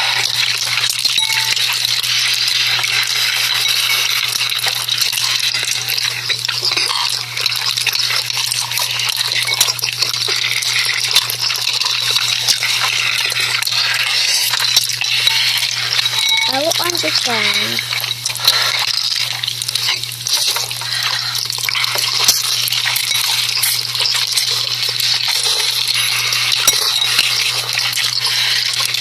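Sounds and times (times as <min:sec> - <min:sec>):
small crackling clicks: 0:00.0 - 0:29.0
wet stirring noises: 0:00.2 - 0:29.0.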